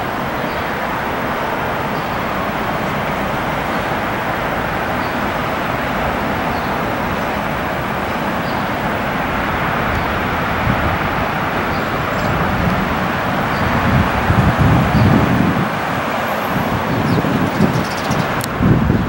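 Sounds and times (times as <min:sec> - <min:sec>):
jet engines rushing on landing: 0:00.0 - 0:19.0.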